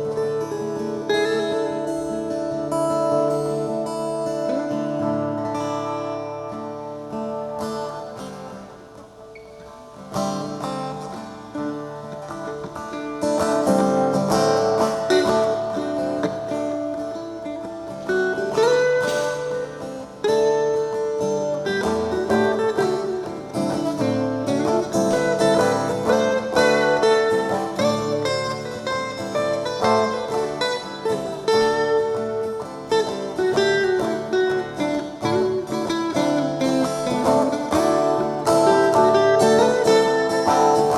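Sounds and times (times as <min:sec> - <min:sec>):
guitar playing: 0:00.0 - 0:40.9.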